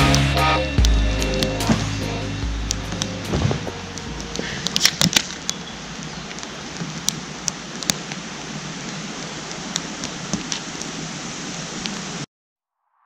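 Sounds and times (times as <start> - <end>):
campfire crackling and popping: 0.0 - 12.2
fire hiss: 1.2 - 12.3.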